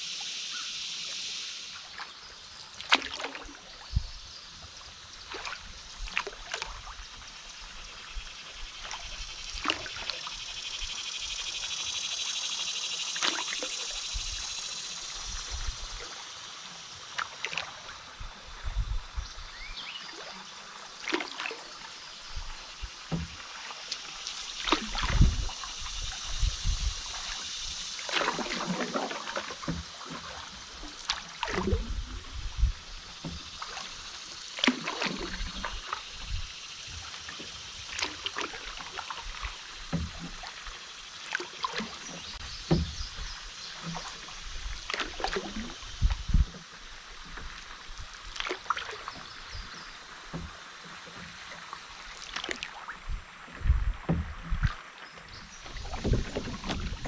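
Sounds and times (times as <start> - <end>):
flowing river water: 0.0 - 57.0
paddle strokes splashing: 0.0 - 57.0.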